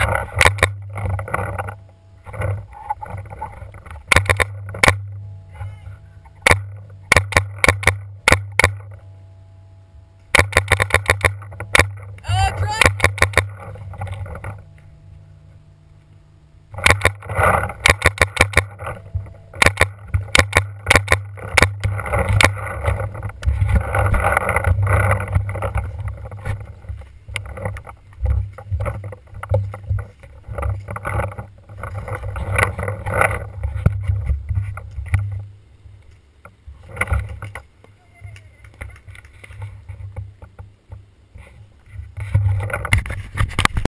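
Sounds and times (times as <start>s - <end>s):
wind rumble: 0.0s - 43.9s.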